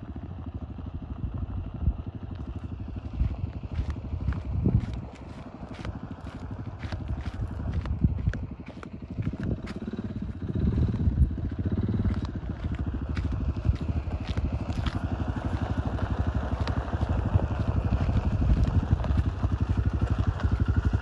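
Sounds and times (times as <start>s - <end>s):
gravel clicking under tyres: 0.0s - 21.0s
quad bike engine chugging: 0.0s - 21.0s.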